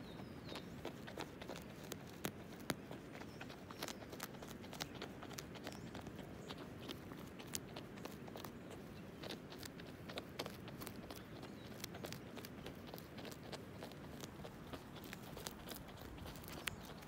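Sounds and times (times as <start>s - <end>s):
animal biting and chewing grass: 0.0s - 17.0s
low steady background noise: 0.0s - 17.0s.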